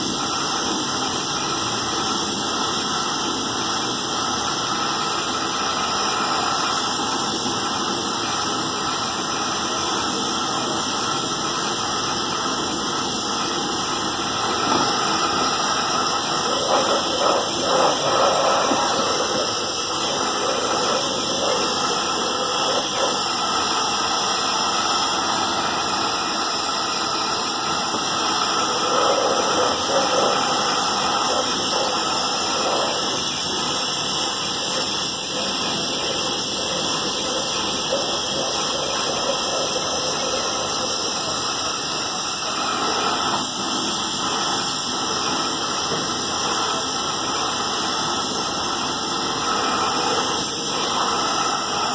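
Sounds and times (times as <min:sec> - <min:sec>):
welding torch flame hissing: 0:00.0 - 0:51.9.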